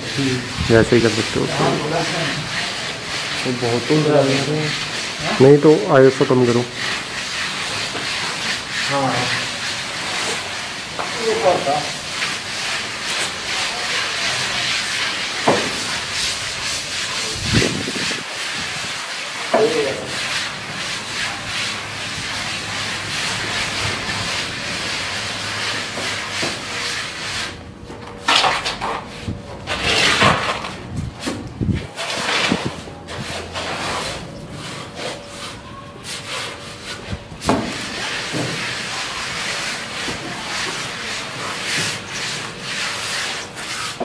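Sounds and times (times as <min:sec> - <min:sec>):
trowels scraping wet cement: 0:00.0 - 0:44.0.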